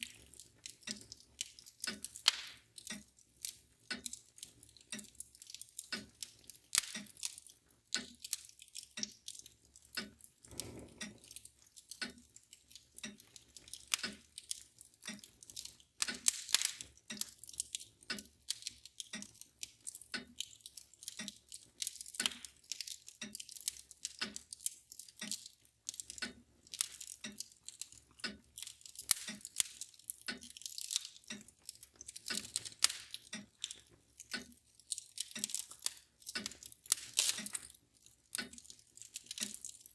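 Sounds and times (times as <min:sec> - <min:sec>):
mantel clock ticking: 0:00.0 - 0:39.9
wood fire crackling: 0:00.0 - 0:39.9.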